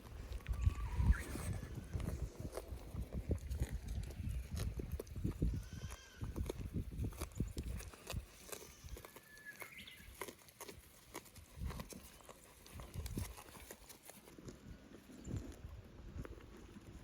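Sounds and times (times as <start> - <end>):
hooves clicking and knocking: 1.8 - 15.7.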